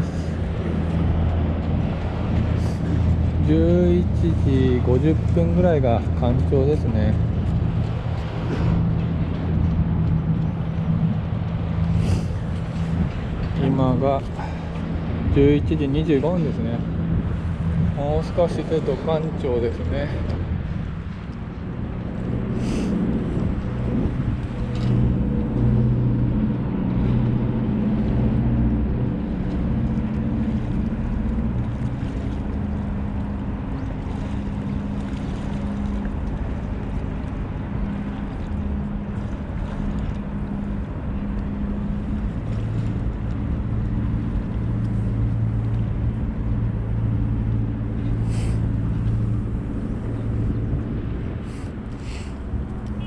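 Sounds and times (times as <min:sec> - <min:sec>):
boat engine droning: 0:00.0 - 0:53.0
water noise: 0:00.0 - 0:53.0
wind: 0:00.0 - 0:53.0.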